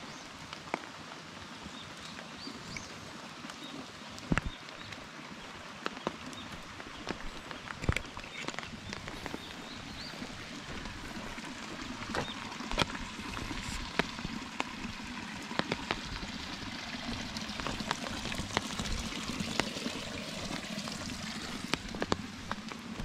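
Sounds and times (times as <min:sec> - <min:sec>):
steady rain hissing: 0:00.0 - 0:23.0
raindrops tapping on umbrella: 0:03.5 - 0:23.0.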